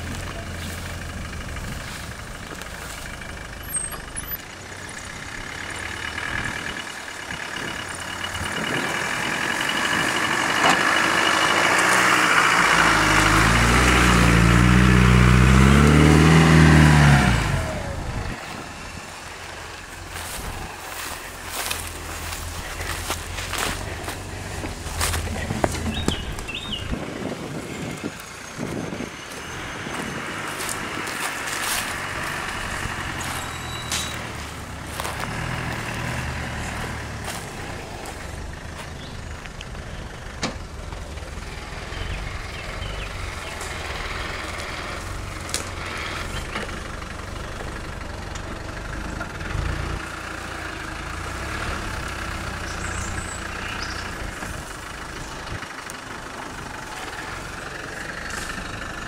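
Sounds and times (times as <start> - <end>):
engine running at low revs: 0.0 - 59.0.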